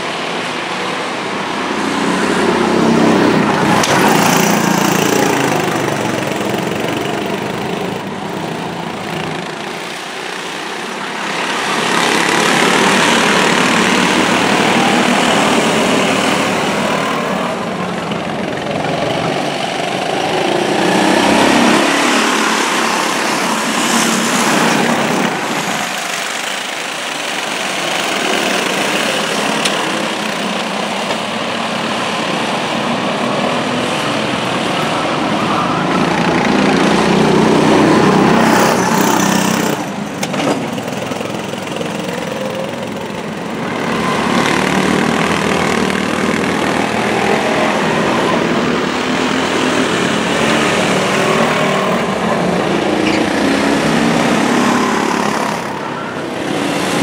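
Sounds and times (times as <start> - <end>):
go-kart engines passing: 0.0 - 57.0.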